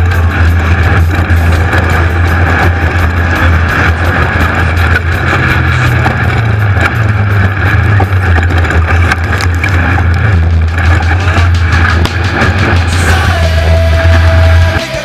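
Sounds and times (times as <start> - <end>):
car knocks and rattles: 0.0 - 13.0
race car engine running hard: 0.0 - 15.0.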